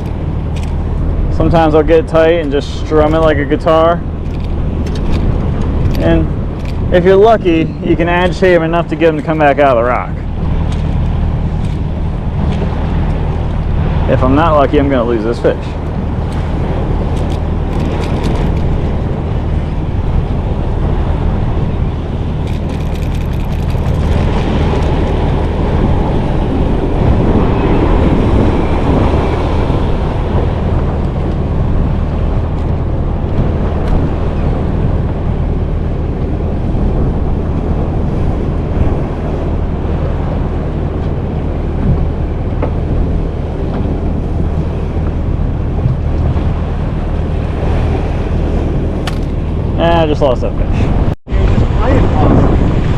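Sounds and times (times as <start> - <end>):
boat motor humming: 0.0 - 52.9
water washing: 0.0 - 52.9
wind buffeting microphone: 0.0 - 52.9.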